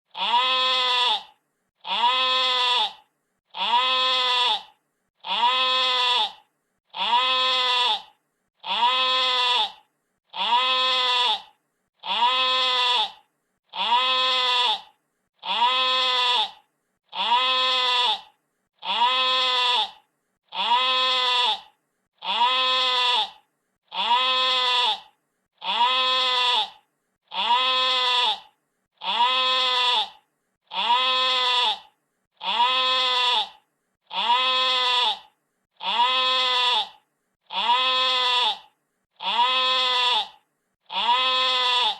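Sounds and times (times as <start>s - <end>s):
sheep bleating: 0.1s - 41.9s.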